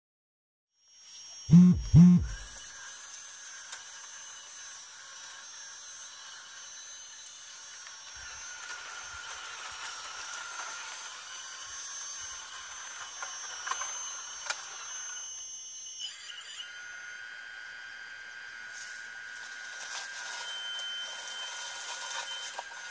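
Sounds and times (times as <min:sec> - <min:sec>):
hydraulic pump whine: 0:00.8 - 0:22.9.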